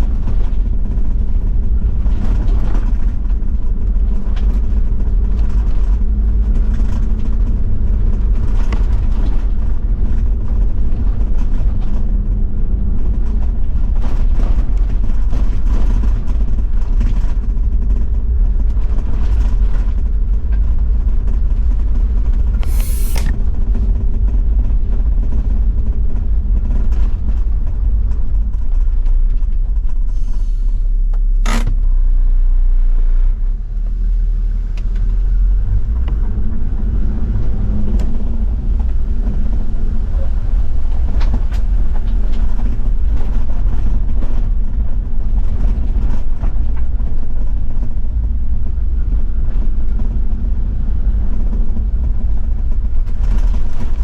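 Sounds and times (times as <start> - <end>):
vehicle rumbling on gravel road: 0.0 - 54.0.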